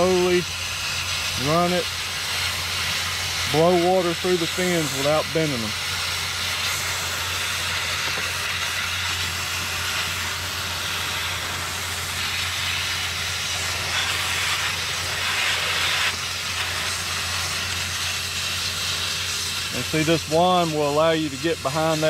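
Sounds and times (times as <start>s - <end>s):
water spraying with steady hiss: 0.0s - 22.0s.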